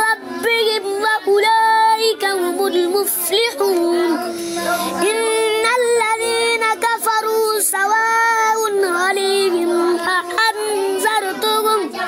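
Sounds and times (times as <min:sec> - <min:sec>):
boy chanting: 0:00.0 - 0:12.0.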